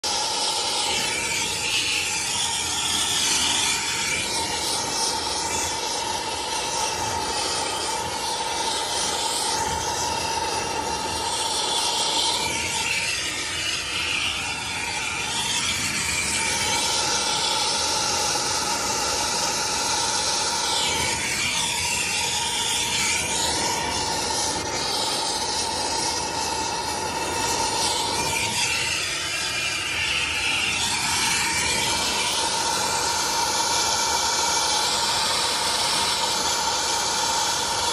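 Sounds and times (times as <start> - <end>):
soldering torch hissing: 0.0 - 37.9.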